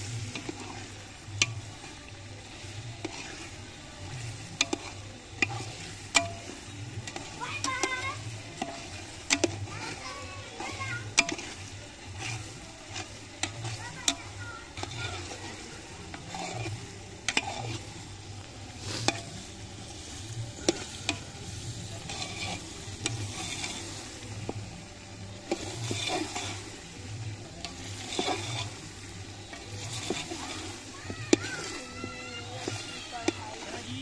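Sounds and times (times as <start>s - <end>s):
ladle stirring: 0.0s - 34.0s
onions sizzling in pot: 0.0s - 34.0s.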